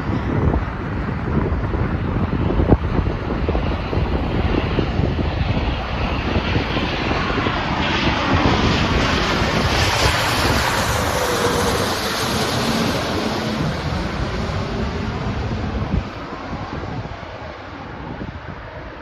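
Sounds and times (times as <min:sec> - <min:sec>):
airplane engines: 0:00.0 - 0:19.0
wind buffeting microphone: 0:00.0 - 0:19.0.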